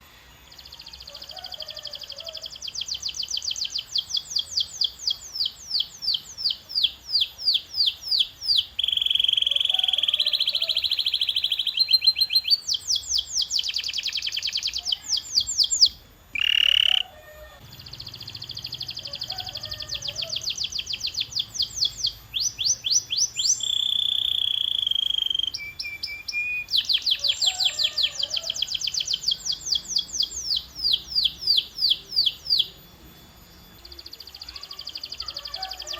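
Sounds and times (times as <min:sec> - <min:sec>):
canary singing: 0:00.4 - 0:35.9.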